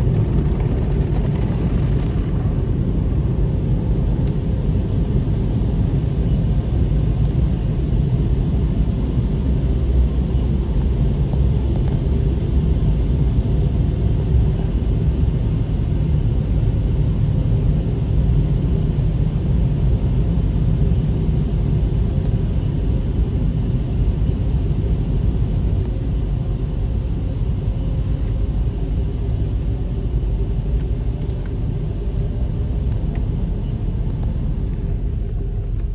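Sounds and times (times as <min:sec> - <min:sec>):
low rumble inside car cabin: 0:00.0 - 0:35.9.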